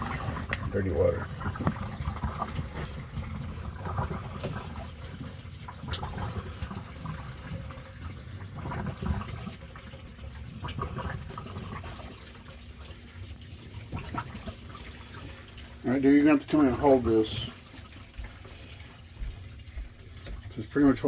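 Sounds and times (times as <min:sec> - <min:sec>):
water draining and gurgling: 0:00.0 - 0:21.0.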